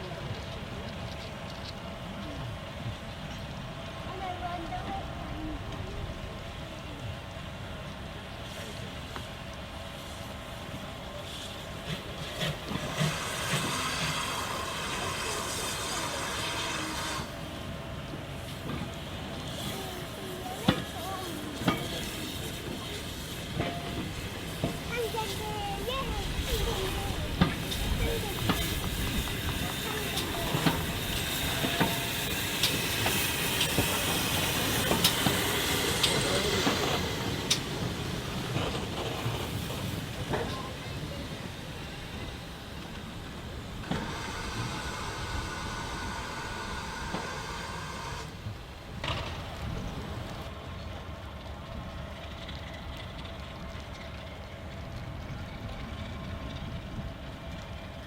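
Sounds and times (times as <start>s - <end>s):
railway noise: 0.0s - 58.0s
steam locomotive hissing: 0.0s - 58.0s.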